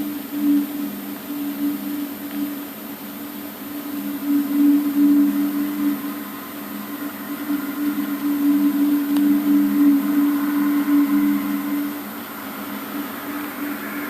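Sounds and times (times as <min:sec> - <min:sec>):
low two-tone droning hum: 0:00.0 - 0:14.0.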